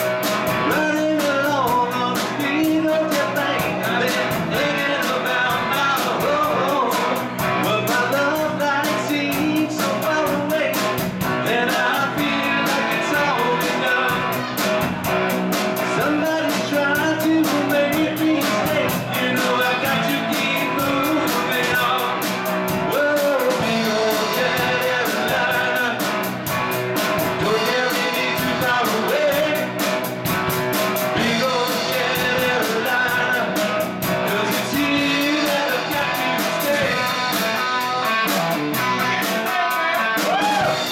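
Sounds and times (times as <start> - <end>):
bass guitar: 0.0 - 40.9
drum kit beat: 0.0 - 40.9
electric guitars: 0.0 - 40.9.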